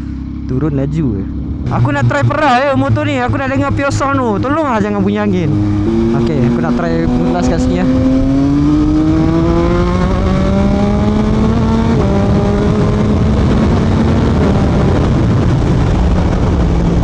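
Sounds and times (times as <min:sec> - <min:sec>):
motorcycle engine accelerating: 0:00.0 - 0:17.0
wind rush on microphone: 0:02.6 - 0:17.0.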